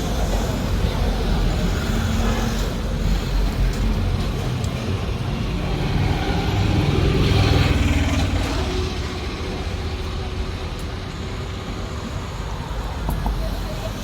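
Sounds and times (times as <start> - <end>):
motor vehicles rumbling: 0.0 - 14.0.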